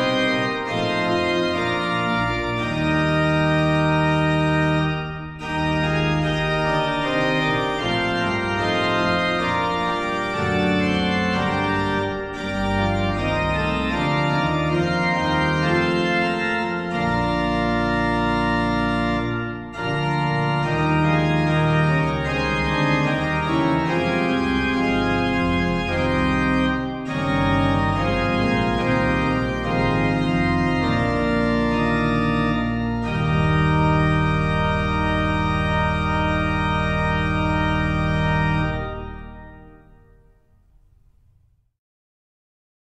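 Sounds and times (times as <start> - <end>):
organ playing sustained chords: 0.0 - 41.1.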